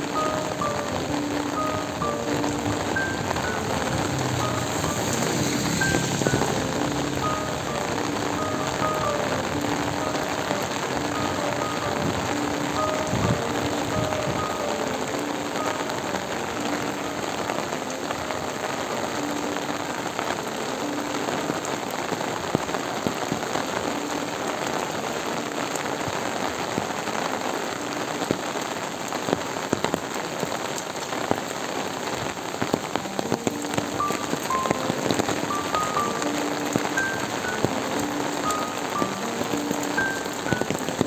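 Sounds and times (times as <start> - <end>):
rain hissing: 0.0 - 41.0
raindrop ticks: 0.0 - 41.0.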